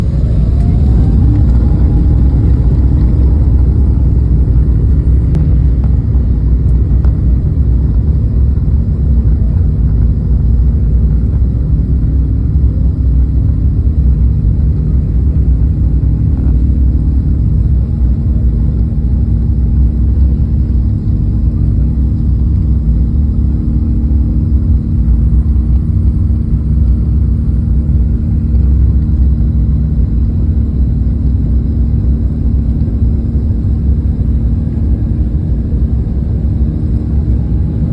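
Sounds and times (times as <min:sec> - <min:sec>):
faint engine whine: 0:00.0 - 0:37.9
jet engine rumble: 0:00.0 - 0:37.9.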